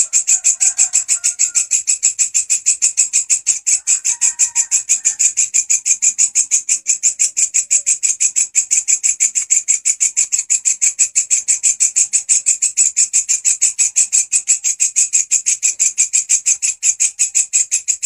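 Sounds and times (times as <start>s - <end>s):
katydid chirping: 0.0s - 18.0s.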